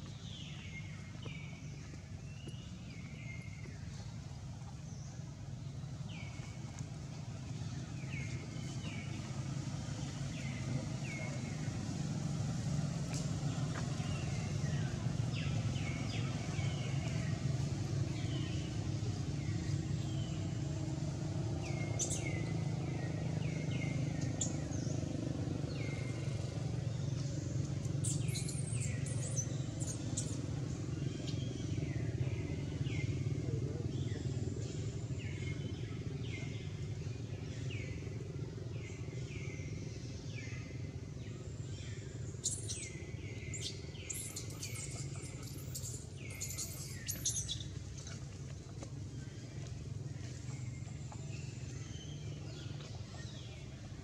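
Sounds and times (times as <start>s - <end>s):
birds chirping: 0.0s - 54.0s
steady low rumble: 0.0s - 54.0s.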